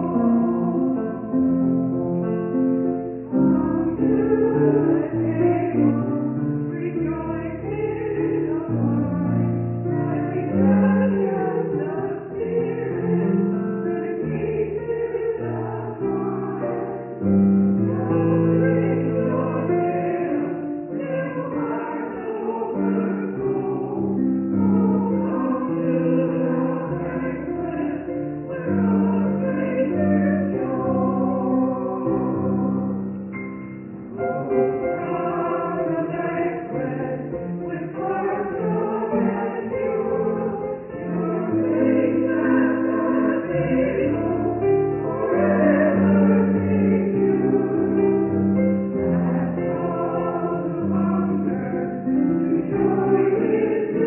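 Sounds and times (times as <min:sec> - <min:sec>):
choir singing a hymn: 0:00.0 - 0:33.4, 0:34.0 - 0:54.0.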